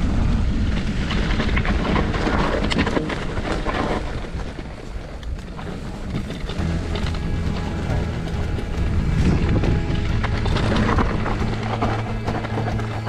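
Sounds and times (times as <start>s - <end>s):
bike rattling over stony ground: 0.0s - 13.0s
wind rumbling on microphone: 0.0s - 13.0s.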